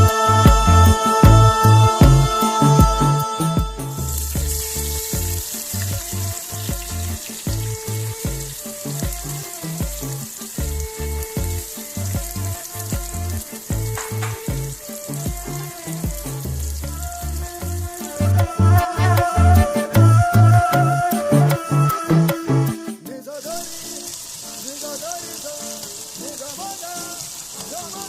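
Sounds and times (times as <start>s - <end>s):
food sizzling in a pan: 0.0s - 18.4s, 22.9s - 28.0s
background music with bass: 0.0s - 23.1s.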